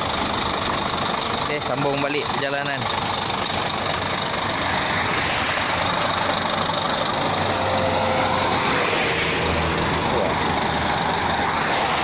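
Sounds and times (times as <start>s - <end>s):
diesel truck engine idling: 0.0s - 12.0s
road traffic passing: 0.0s - 12.0s.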